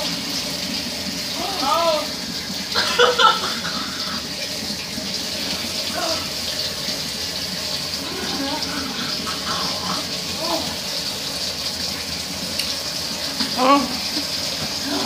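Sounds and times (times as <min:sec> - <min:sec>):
faucet running into a sink: 0:00.0 - 0:15.0.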